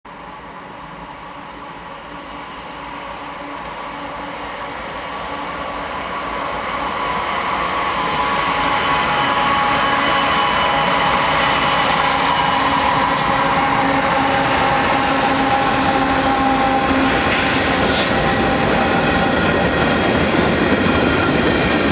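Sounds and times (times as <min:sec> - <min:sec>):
diesel locomotive engine drone: 0:00.1 - 0:21.9.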